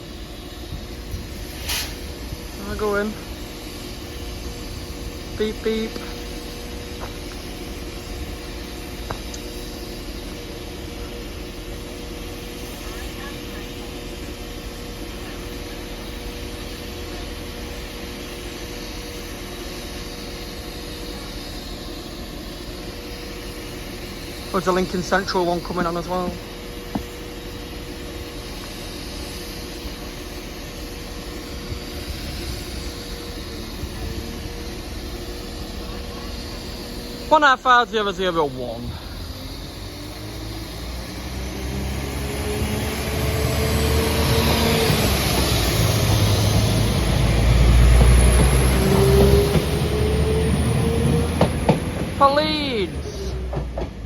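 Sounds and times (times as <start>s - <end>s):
held whine: 0.0s - 54.0s
train engines humming: 0.0s - 54.0s.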